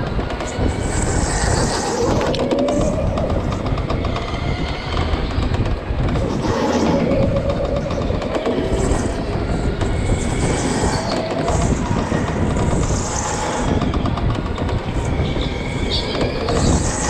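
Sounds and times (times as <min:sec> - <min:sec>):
faint motor whines: 0:00.0 - 0:17.0
go-kart rumble and rattle: 0:00.0 - 0:17.0.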